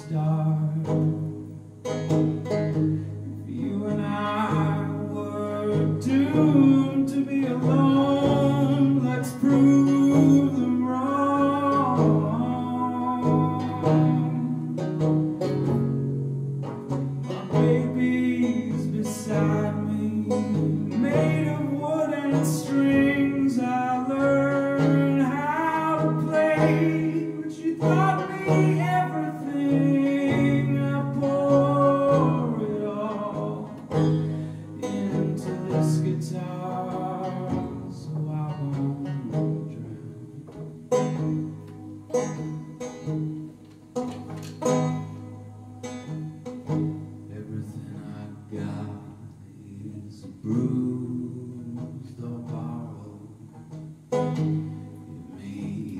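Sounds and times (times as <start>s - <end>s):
man singing: 0.0s - 1.4s, 2.4s - 15.8s, 17.2s - 41.3s, 47.2s - 53.8s, 55.0s - 55.9s
banjo picking: 0.0s - 55.9s.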